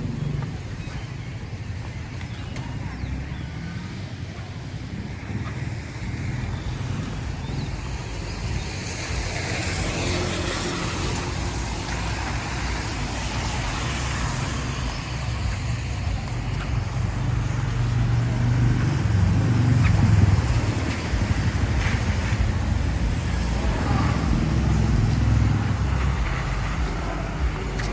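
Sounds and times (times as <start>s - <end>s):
road noise: 0.0s - 27.9s
vehicle engine rumble: 0.0s - 27.9s.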